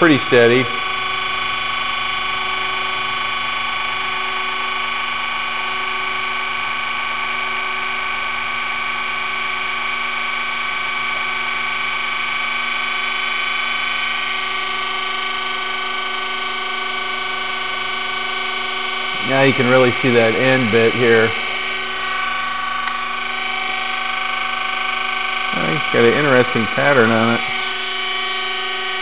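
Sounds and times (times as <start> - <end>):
grinding wheel whining on steel: 0.0 - 29.0.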